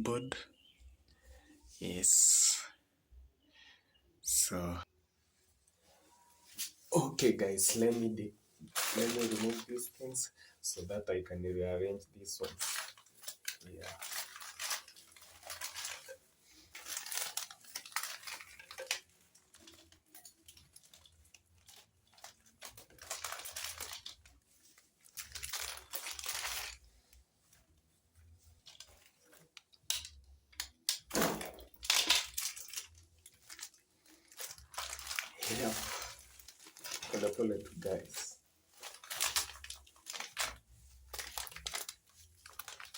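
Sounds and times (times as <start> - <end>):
packaging rustling and crinkling: 5.8 - 11.0, 12.3 - 42.9.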